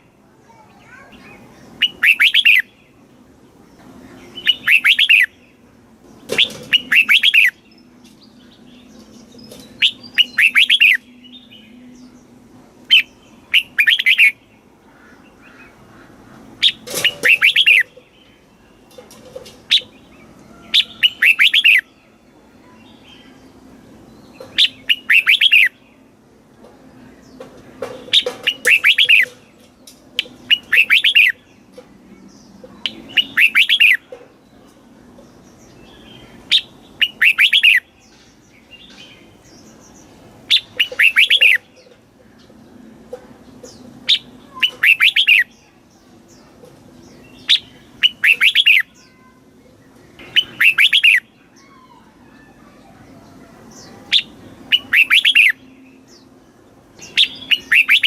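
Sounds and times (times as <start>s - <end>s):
bird singing gliding notes: 0.0s - 58.0s.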